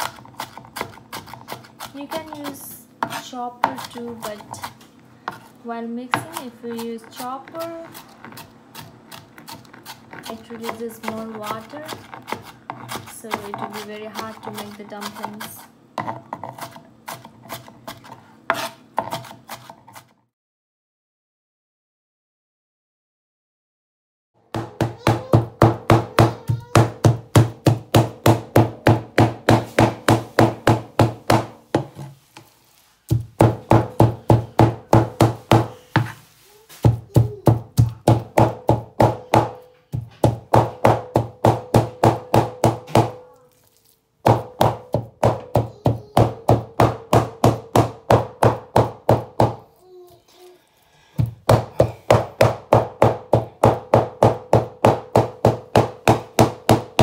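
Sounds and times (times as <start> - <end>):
knife chopping on cutting board: 0.0 - 5.5, 6.1 - 20.1, 24.6 - 32.2, 33.1 - 43.3, 44.3 - 49.6, 51.1 - 57.0.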